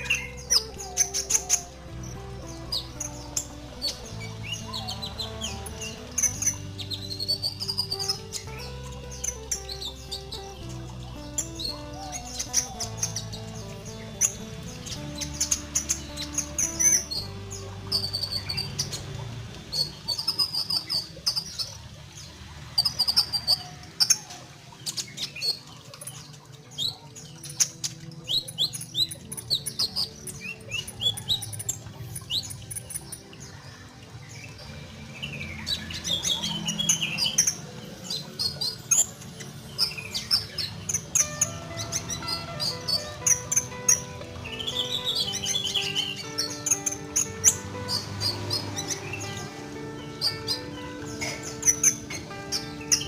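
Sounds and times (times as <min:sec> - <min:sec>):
bird chirping and trilling: 0:00.0 - 0:53.0.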